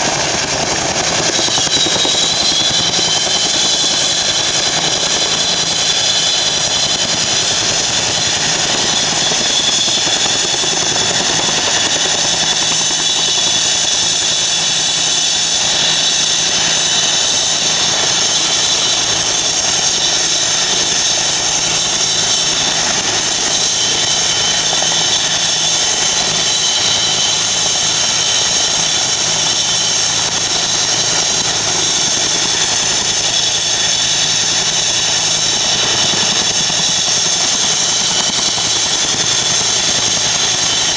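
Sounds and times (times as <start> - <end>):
helicopter rotor noise: 0.0 - 40.9
helicopter turbine whine: 0.0 - 40.9.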